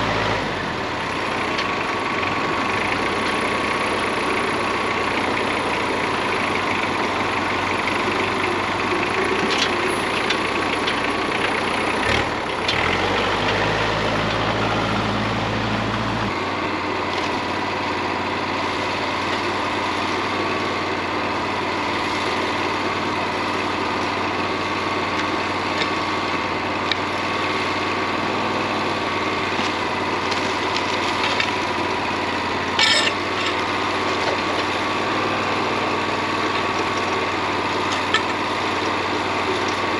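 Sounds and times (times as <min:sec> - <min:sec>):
bandsaw mill whining: 0:00.0 - 0:39.9.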